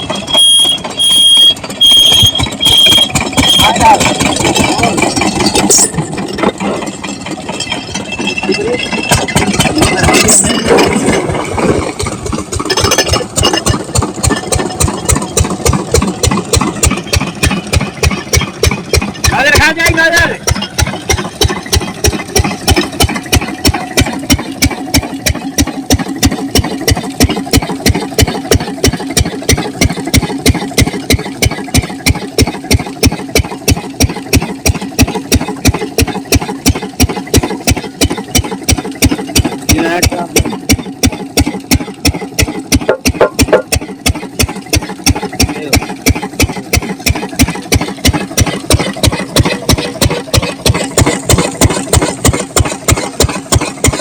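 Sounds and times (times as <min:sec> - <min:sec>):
diesel water pump engine chugging: 0:00.0 - 0:54.0.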